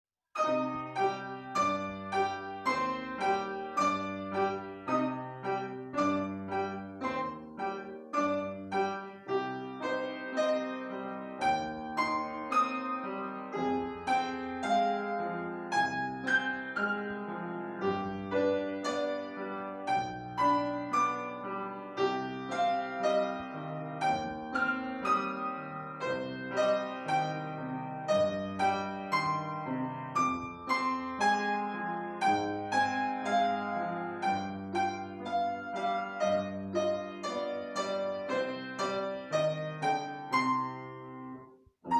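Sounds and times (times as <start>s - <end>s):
piano music: 0.4s - 41.9s.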